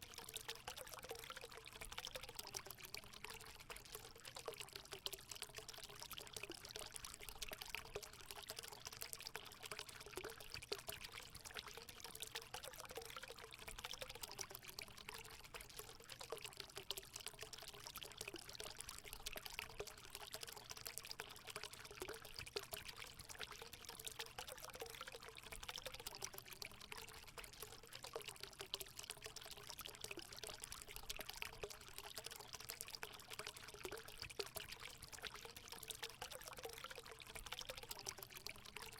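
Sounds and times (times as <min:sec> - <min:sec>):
water trickling into pool: 0:00.0 - 0:38.9.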